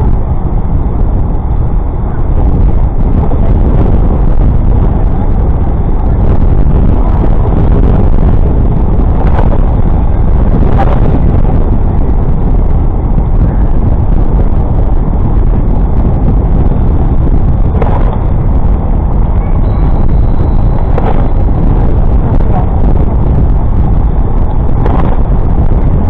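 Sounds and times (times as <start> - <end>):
city traffic: 0.0 - 26.0
wind buffeting microphone: 0.0 - 26.0.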